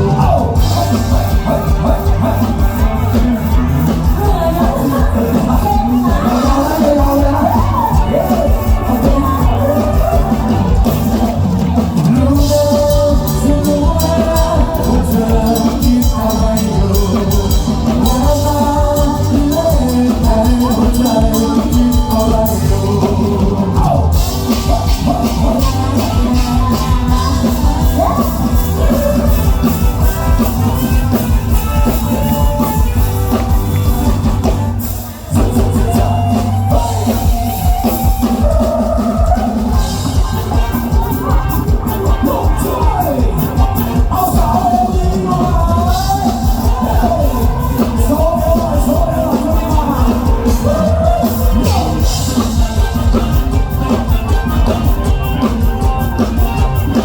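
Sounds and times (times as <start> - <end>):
drum-kit beat: 0.0 - 57.0
live band music: 0.0 - 57.0
person singing: 0.0 - 57.0.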